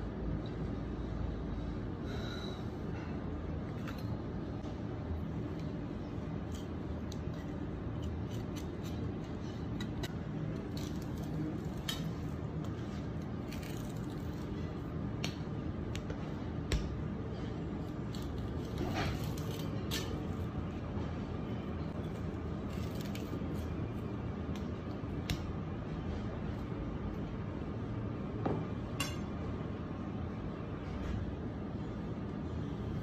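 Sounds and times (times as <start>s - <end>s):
steady low background noise: 0.0s - 33.0s.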